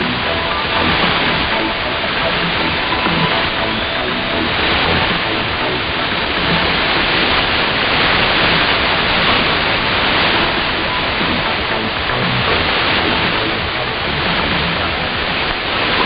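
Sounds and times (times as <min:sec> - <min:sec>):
shortwave radio static hiss: 0:00.0 - 0:16.0.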